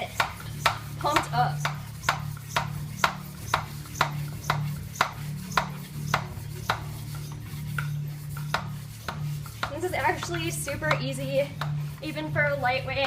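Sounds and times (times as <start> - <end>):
floor pump rasping strokes: 0.0 - 13.0
steady low hum: 0.0 - 13.0.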